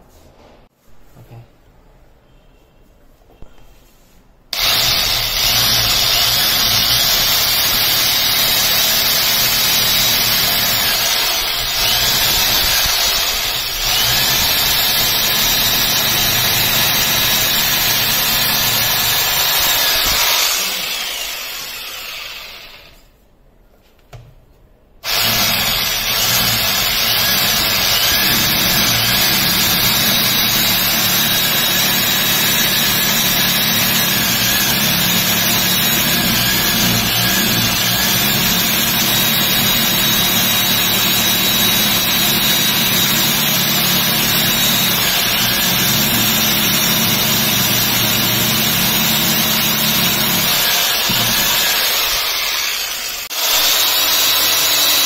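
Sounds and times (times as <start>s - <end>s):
hammer drill boring: 4.6s - 23.1s, 25.0s - 55.0s.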